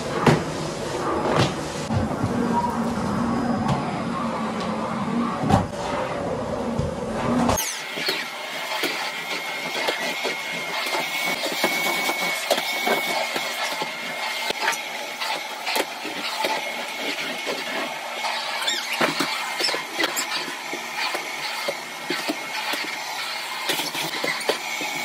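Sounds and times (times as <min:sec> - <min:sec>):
vacuum cleaner whining: 0:00.0 - 0:25.0.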